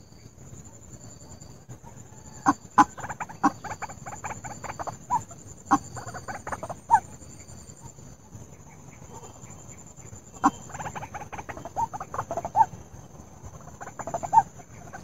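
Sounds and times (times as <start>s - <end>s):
sharp bird calls: 1.9s - 15.0s.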